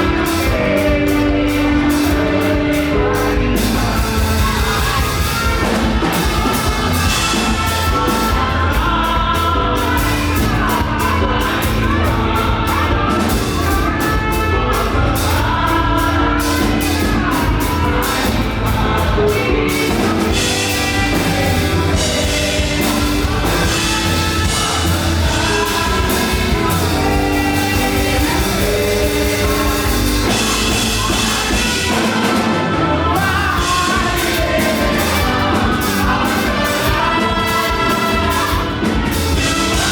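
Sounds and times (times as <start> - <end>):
bass: 0.0 - 39.9
drums: 0.0 - 39.9
group of singers singing: 0.0 - 39.9.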